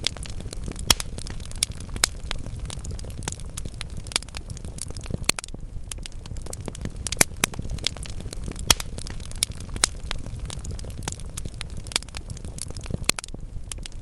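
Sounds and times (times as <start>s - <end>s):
logs crackling and popping in fire: 0.0s - 14.0s
low rumble of flame: 0.0s - 14.0s.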